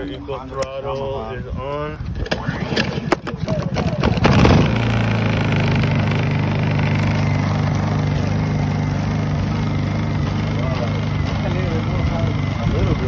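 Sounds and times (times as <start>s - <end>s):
generator engine running: 2.5s - 13.0s.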